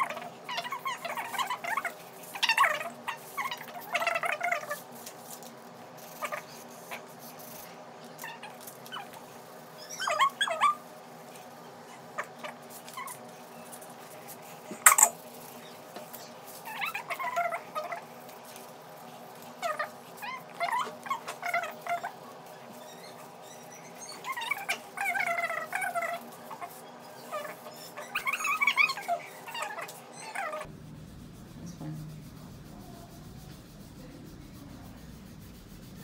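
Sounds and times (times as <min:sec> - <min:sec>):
pet whining: 0:00.0 - 0:05.4, 0:06.0 - 0:30.7
low room hum: 0:00.0 - 0:36.0.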